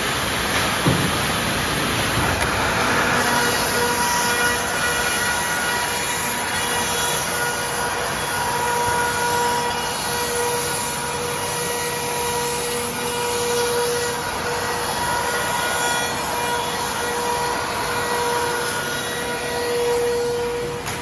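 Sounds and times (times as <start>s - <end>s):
router machining and airflow rush: 0.0s - 21.0s
steady machine whine: 0.0s - 21.0s.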